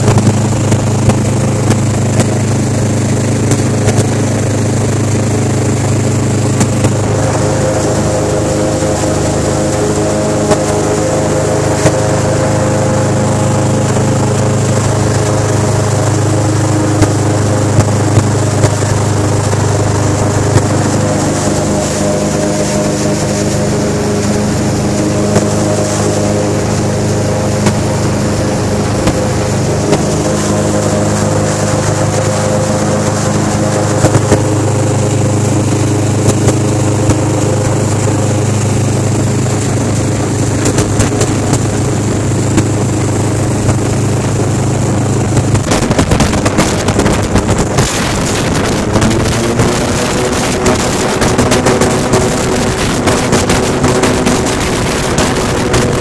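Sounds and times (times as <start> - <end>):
airboat engine and propeller: 0.0 - 56.0.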